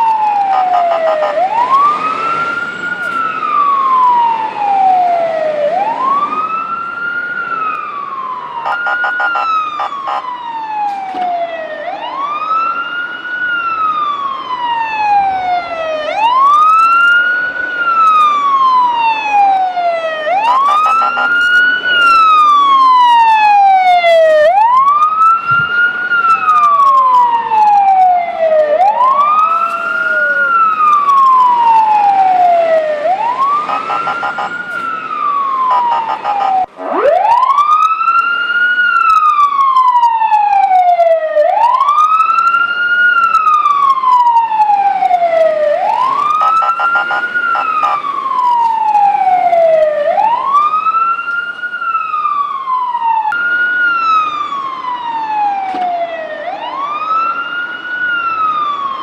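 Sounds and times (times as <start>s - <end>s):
fire truck siren wailing: 0.0s - 59.0s
higher falling siren sweeps: 0.0s - 59.0s
stuttering siren blasts: 0.0s - 59.0s.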